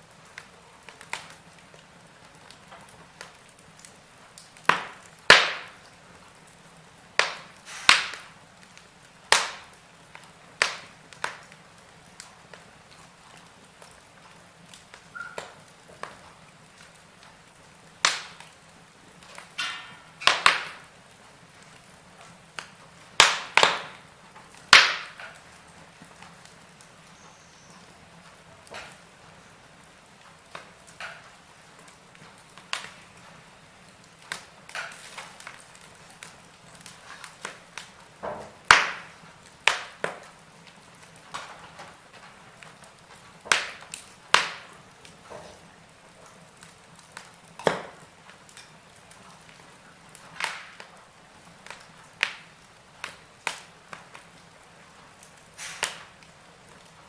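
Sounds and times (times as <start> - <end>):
faint steady hiss: 0.0 - 57.0
wood fire crackling and popping: 0.0 - 57.0.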